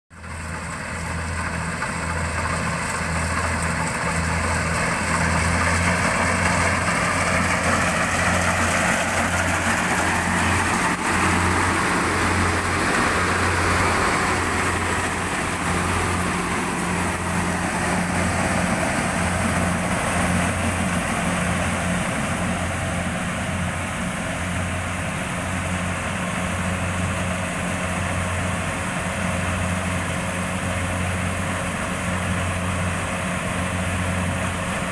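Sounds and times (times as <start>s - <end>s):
combine harvester running: 0.1s - 34.9s.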